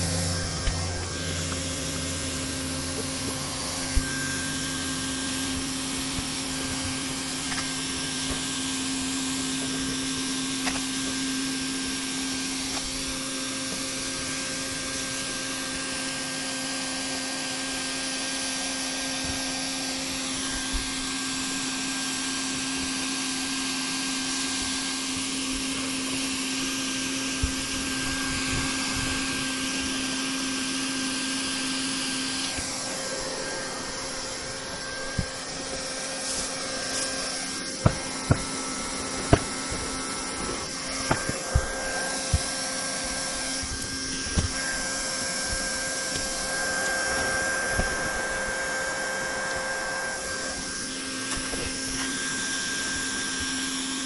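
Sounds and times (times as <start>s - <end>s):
hot-air welding gun whirring: 0.0s - 54.0s.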